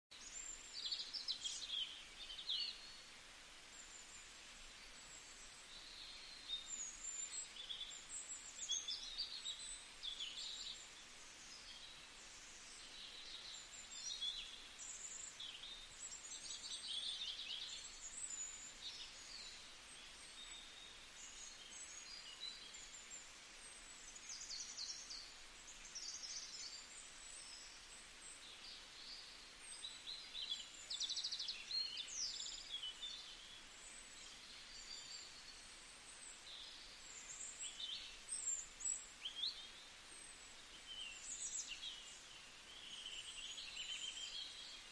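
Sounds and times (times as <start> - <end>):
small birds chirping: 0.1 - 44.9
steady hiss: 0.1 - 44.9.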